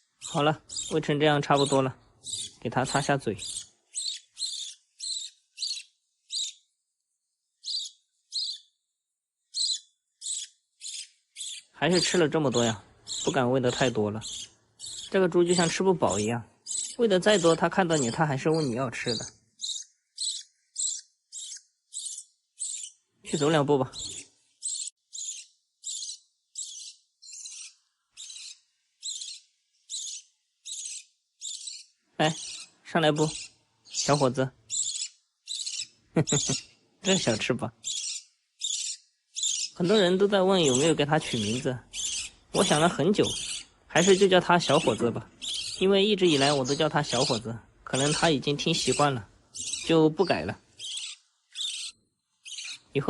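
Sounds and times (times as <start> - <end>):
bird chick chirping: 0.0 - 6.7, 7.6 - 8.8, 9.5 - 53.0.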